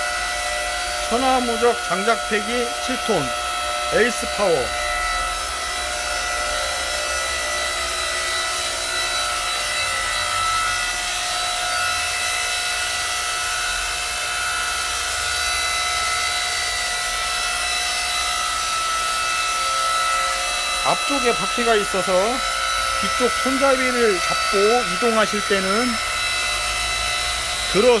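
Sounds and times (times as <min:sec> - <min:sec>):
log splitter motor humming: 0:00.0 - 0:28.0.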